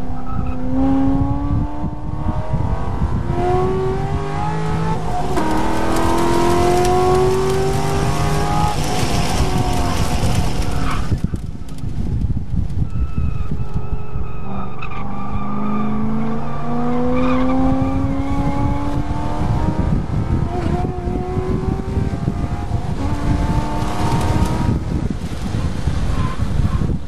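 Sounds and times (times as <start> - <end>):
car engine at full throttle: 0.0 - 27.0
road and wind rumble: 0.0 - 27.0.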